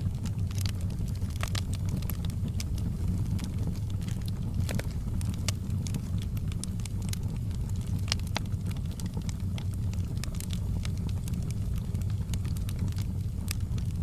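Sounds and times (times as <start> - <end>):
low rumble of flames: 0.0 - 14.0
wood fire crackling and popping: 0.0 - 14.0.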